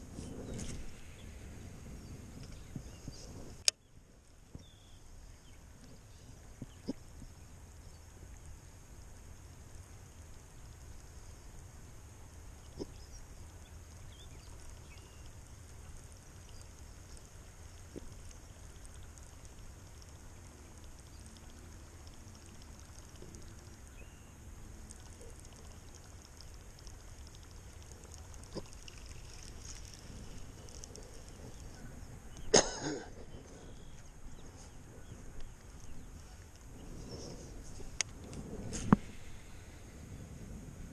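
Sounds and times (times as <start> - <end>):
faint ticks: 2.4 - 32.6, 33.7 - 39.6.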